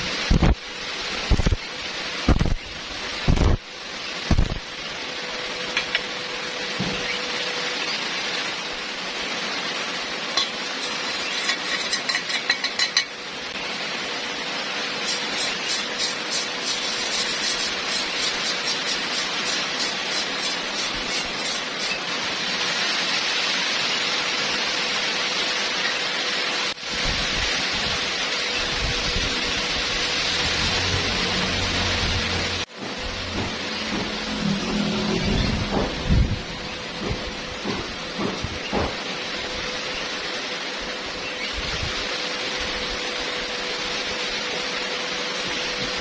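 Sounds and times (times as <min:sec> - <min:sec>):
welding arc crackling: 0:00.0 - 0:46.0.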